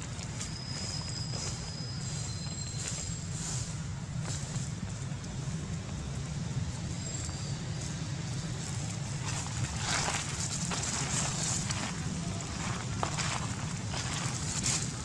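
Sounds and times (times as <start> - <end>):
dry leaves rustling: 0.0 - 15.0.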